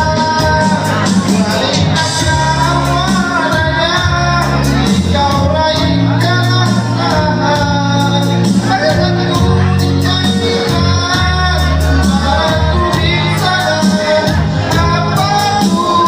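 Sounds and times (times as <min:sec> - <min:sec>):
music with singing: 0:00.0 - 0:16.0.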